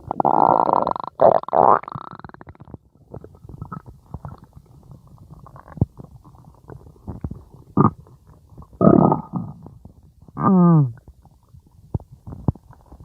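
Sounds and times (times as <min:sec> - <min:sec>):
stomach growling: 0:00.0 - 0:13.0.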